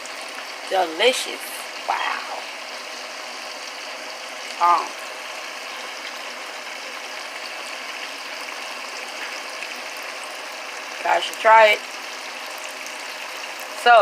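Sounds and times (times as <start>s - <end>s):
food sizzling on stove: 0.0s - 14.0s.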